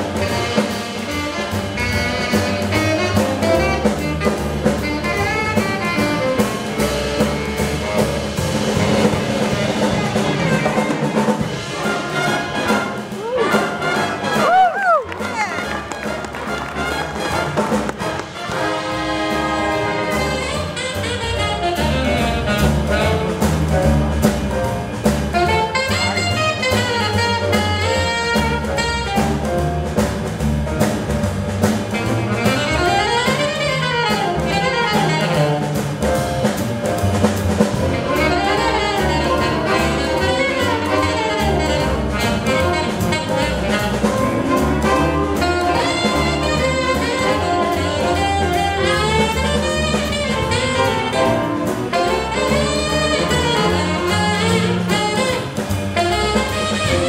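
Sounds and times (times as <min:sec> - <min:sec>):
jazz big band playing: 0:00.0 - 0:57.0
saxophone solo: 0:00.1 - 0:08.0, 0:12.2 - 0:23.5, 0:25.3 - 0:29.6, 0:31.9 - 0:35.8, 0:37.8 - 0:57.0.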